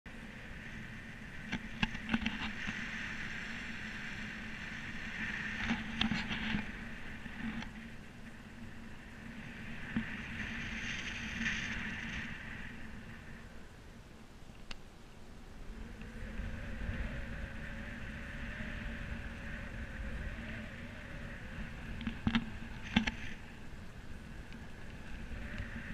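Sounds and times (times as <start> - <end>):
wind rushing over camera: 0.1 - 25.9.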